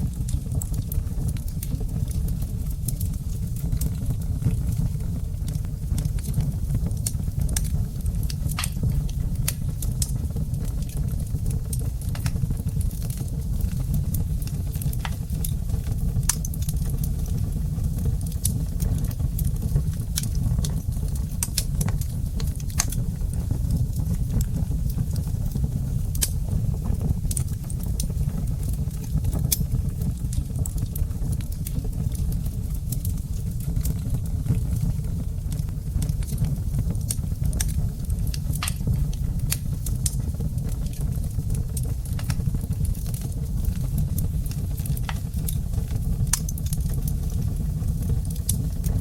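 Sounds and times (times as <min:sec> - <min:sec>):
low rumble of fire: 0:00.0 - 0:49.0
wood fire crackling and popping: 0:00.0 - 0:49.0.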